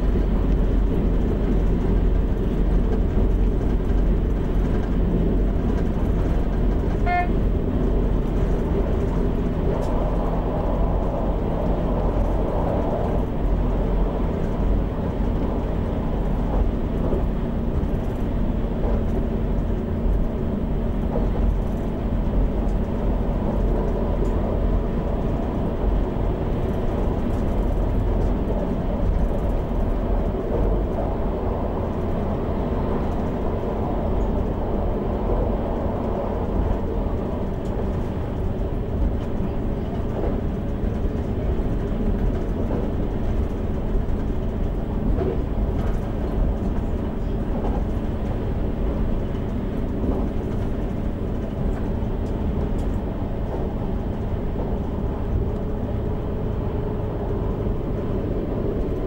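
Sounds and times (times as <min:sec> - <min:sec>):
train engine drone: 0:00.0 - 0:59.0
wheel and rail rumble: 0:00.0 - 0:59.0.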